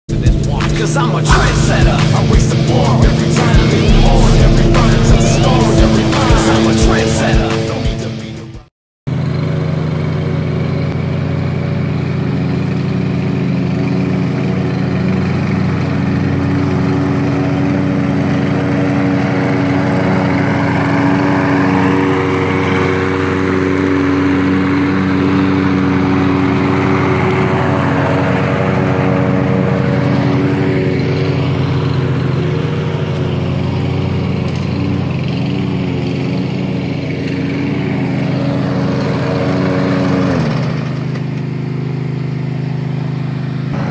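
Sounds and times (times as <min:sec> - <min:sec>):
lawn mower running: 0:00.1 - 0:43.9.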